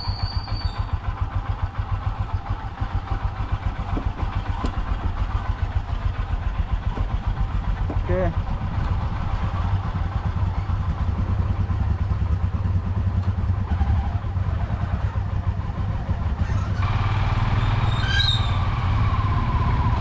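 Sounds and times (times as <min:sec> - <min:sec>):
motorcycle engines idling: 0:00.0 - 0:20.0.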